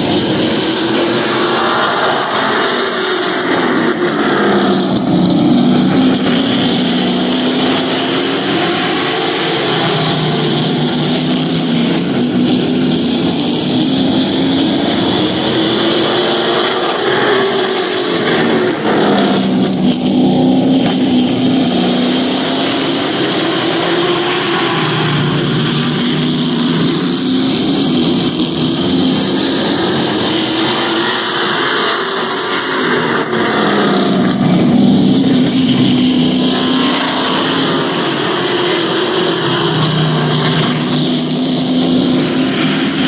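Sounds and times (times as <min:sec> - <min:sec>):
race truck engines passing: 0:00.0 - 0:43.0.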